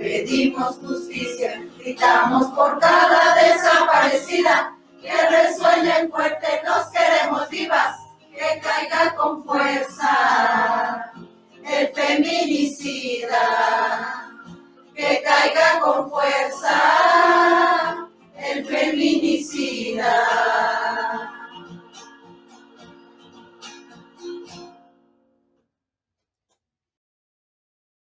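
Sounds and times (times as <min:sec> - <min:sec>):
group singing together: 0:00.0 - 0:24.5.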